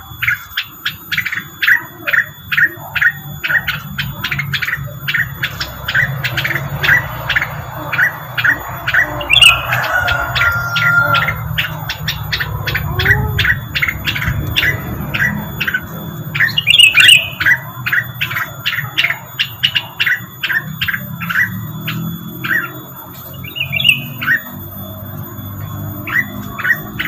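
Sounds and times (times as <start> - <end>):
harsh chirp burst: 0.0 - 27.0
sharp down-slurred bird chirps: 0.0 - 27.0
steady low hum: 0.0 - 27.0.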